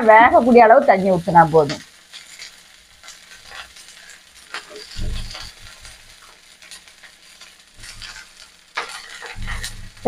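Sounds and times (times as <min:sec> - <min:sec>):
water sizzling in a frying pan: 0:00.0 - 0:10.0.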